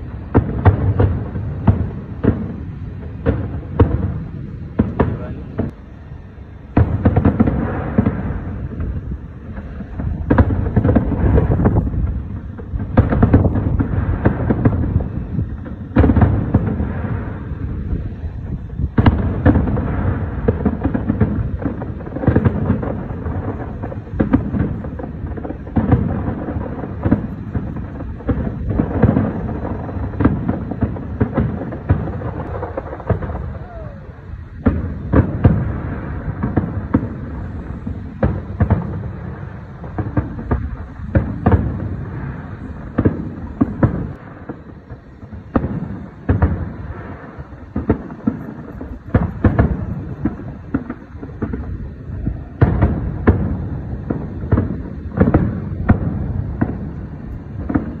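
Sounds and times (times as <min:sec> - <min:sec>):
constant low rumble: 0:00.0 - 0:58.0
fireworks booms and pops: 0:00.0 - 0:58.0.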